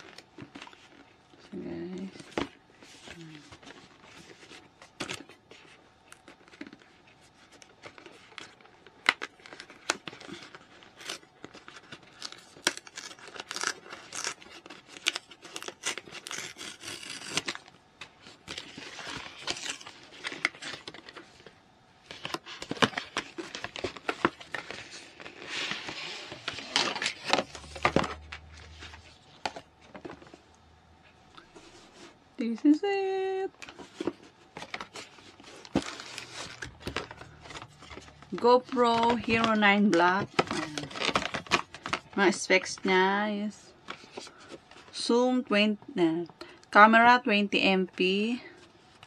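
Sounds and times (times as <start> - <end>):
packaging rustling and crinkling: 0.0 - 32.2, 33.5 - 45.0.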